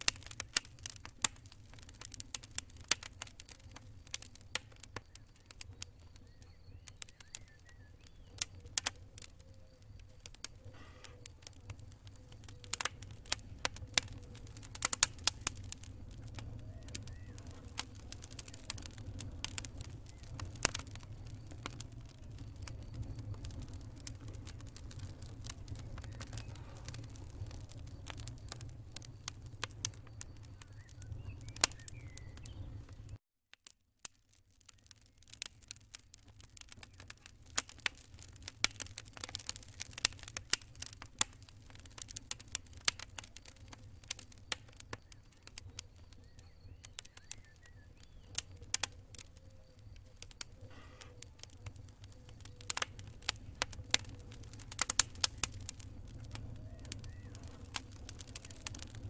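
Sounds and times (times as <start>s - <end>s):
low rumble of fire: 0.0s - 33.2s, 34.0s - 59.0s
fire crackling and popping: 0.0s - 59.0s.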